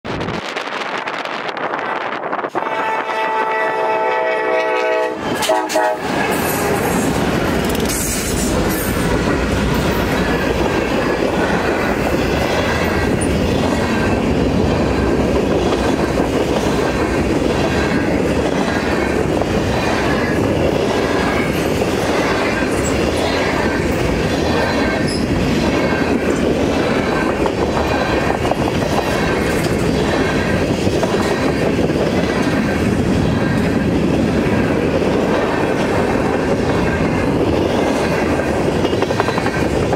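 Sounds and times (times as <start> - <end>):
diesel locomotive engine: 0.1 - 39.9.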